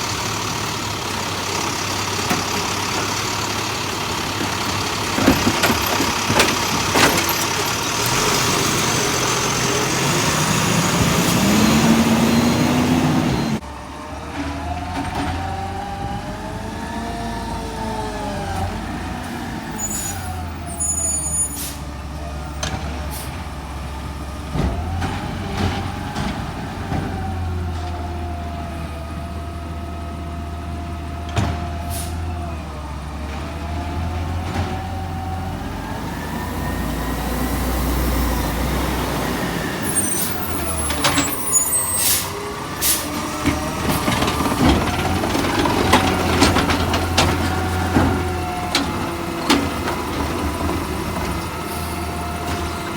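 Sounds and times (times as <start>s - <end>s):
diesel engine revving: 0.0s - 52.9s.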